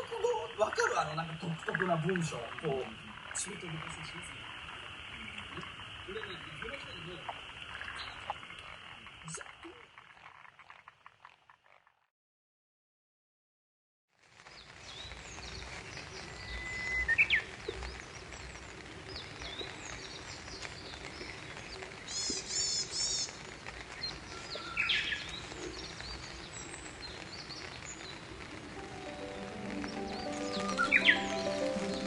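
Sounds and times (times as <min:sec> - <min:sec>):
wild birds singing and chirping: 0:00.0 - 0:09.2, 0:14.6 - 0:32.0.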